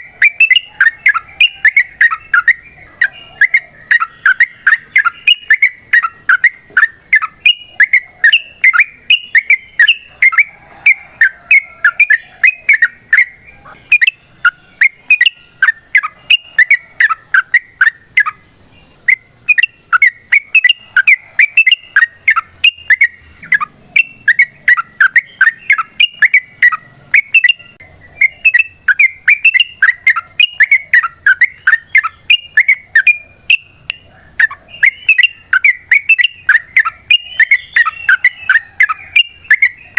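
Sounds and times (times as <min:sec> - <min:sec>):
bulbul chattering call: 0:00.0 - 0:39.9.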